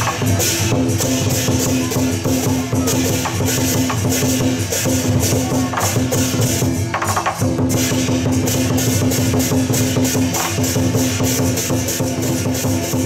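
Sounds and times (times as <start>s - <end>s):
big drum beating: 0.0s - 13.0s
cymbals clashing: 0.0s - 13.0s.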